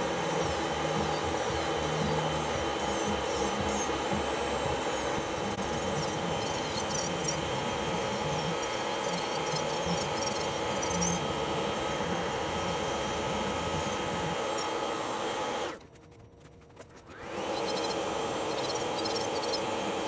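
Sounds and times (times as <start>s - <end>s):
drill bit grinding nail: 0.0s - 15.8s, 17.4s - 20.0s
electric nail drill whining: 0.0s - 15.8s, 17.1s - 20.0s.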